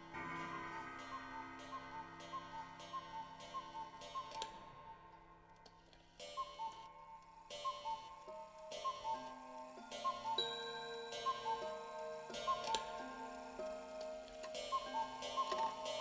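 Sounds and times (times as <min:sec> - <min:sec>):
clock ticking: 0:00.0 - 0:16.0
slow held musical tones: 0:00.0 - 0:16.0.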